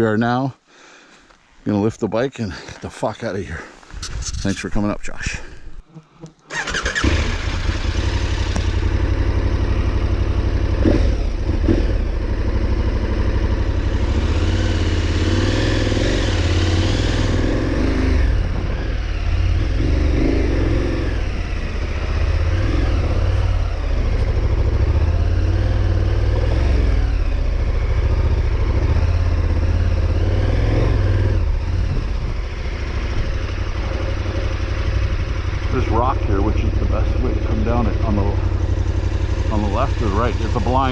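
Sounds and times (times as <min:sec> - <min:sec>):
motorcycle engine revving: 0:06.4 - 0:40.9
engine clatter: 0:06.5 - 0:40.9.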